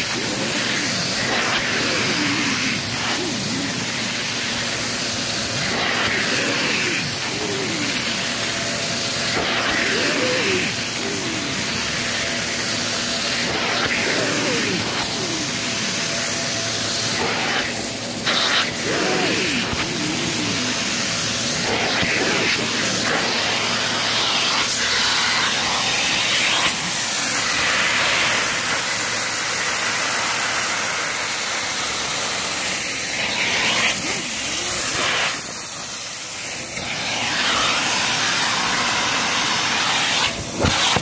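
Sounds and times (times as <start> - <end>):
extraction tool spraying and vacuuming: 0.0 - 41.0.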